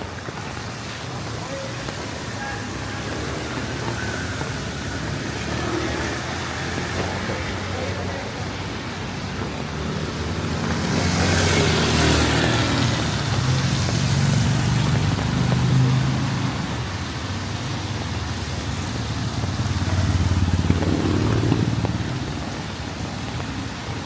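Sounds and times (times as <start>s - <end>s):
rain and water hiss: 0.0s - 24.0s
vehicles passing on wet street: 0.0s - 24.0s.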